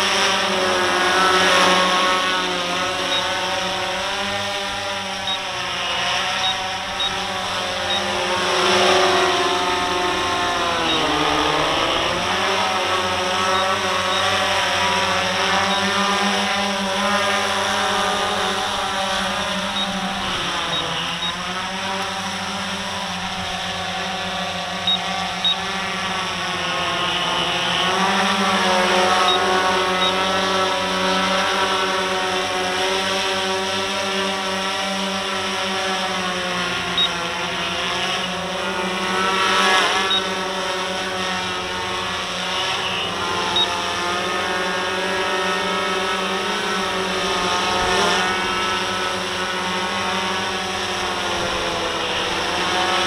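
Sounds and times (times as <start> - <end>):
drone motors and propellers droning: 0.0 - 53.0.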